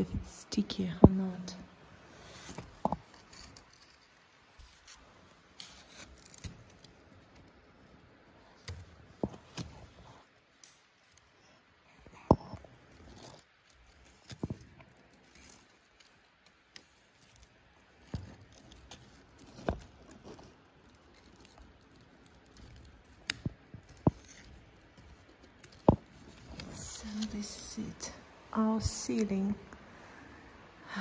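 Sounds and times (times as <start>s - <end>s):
faint rustling: 0.0s - 30.9s.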